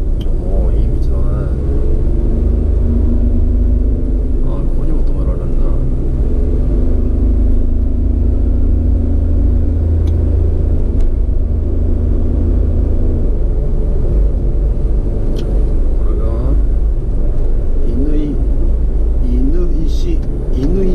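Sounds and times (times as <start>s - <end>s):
road and wind rumble: 0.0s - 20.9s
vehicle engine running: 0.0s - 20.9s.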